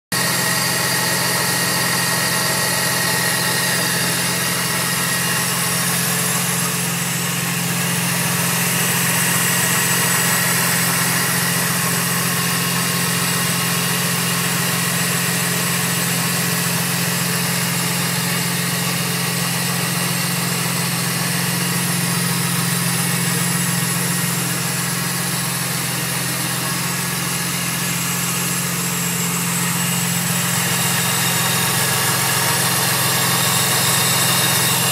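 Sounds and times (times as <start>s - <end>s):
car engine idling: 0.1s - 34.9s
supercharger belt drive spinning: 0.1s - 34.9s.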